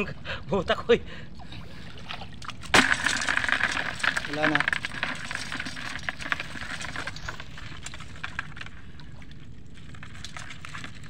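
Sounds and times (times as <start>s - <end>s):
water sloshing and dripping: 0.0s - 11.0s
small splashes and clicks: 1.9s - 11.0s.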